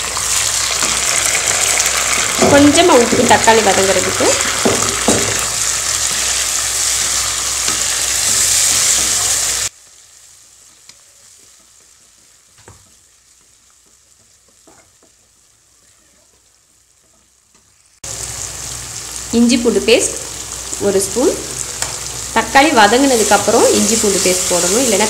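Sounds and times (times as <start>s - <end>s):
onions sizzling in hot oil: 0.0s - 25.0s.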